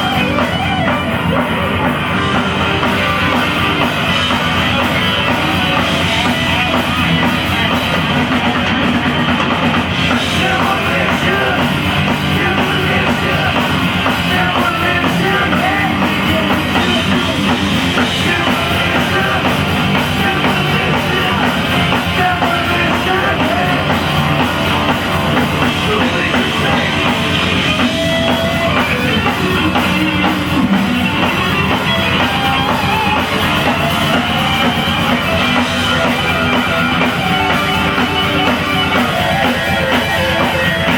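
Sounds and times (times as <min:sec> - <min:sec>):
driving drum kit: 0:00.0 - 0:40.9
rock band playing live: 0:00.0 - 0:40.9.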